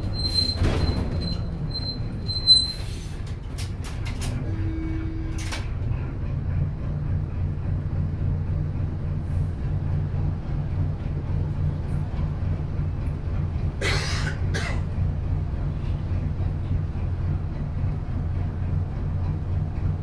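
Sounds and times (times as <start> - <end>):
diesel bus idling: 0.0 - 20.0.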